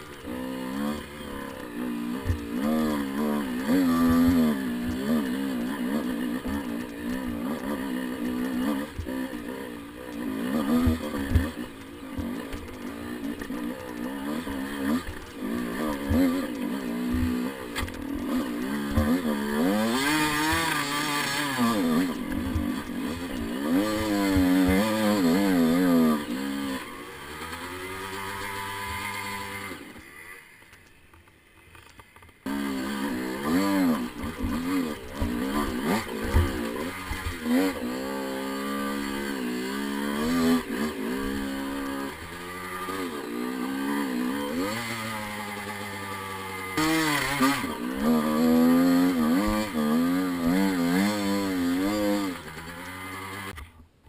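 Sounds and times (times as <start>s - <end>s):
dirt bike engine revving: 0.0s - 53.7s.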